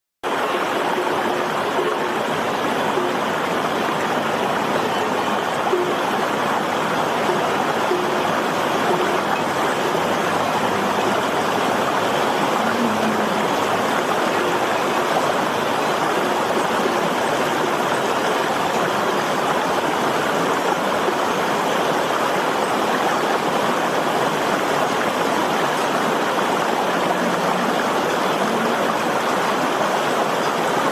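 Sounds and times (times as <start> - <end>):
flowing water rushing: 0.2 - 30.9.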